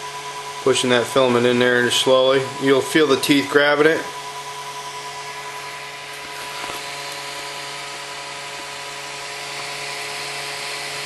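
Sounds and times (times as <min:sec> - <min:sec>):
stepper motor whining: 0:00.0 - 0:11.0.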